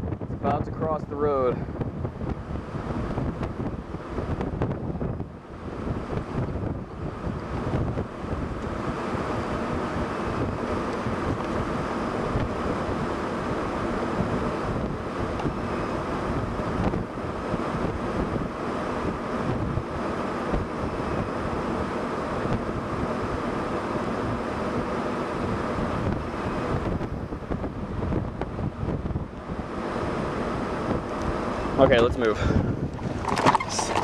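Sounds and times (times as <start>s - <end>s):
gusty wind on microphone: 0.0s - 34.0s.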